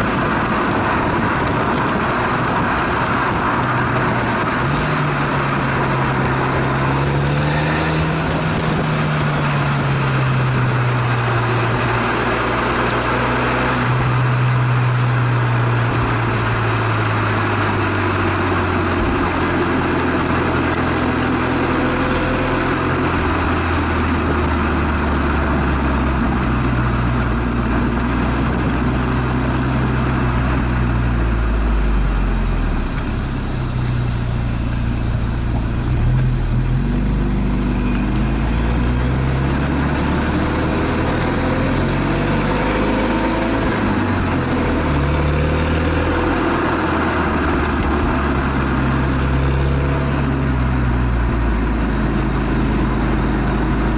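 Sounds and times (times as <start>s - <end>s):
car exhaust note: 0.0s - 53.9s
wind and tyre noise: 0.0s - 53.9s.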